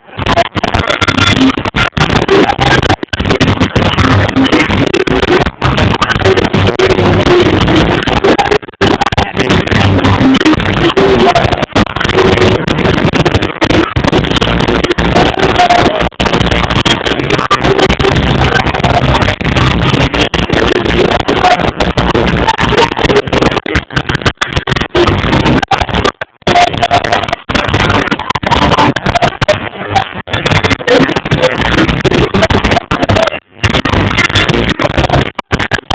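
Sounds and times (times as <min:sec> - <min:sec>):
distorted live reggae band: 0:00.0 - 0:35.9.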